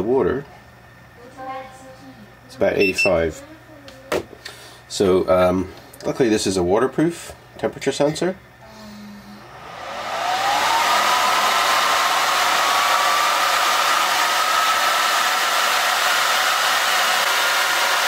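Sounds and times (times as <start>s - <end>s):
cooling fan whine and air rush: 0.0s - 18.0s.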